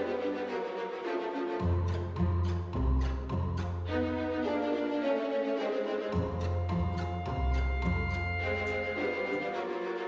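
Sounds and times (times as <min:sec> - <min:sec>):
held synth notes: 0:00.0 - 0:10.0.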